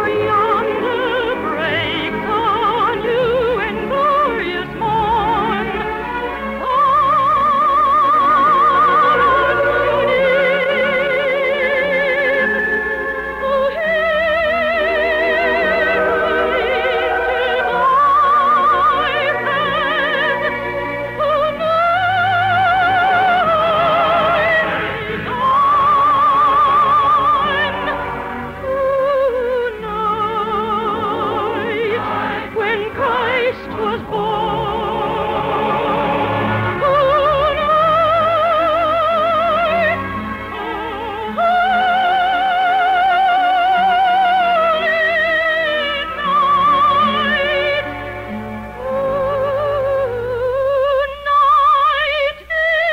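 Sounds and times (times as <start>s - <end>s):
orchestral accompaniment: 0.0s - 52.7s
operatic soprano singing: 0.0s - 52.9s.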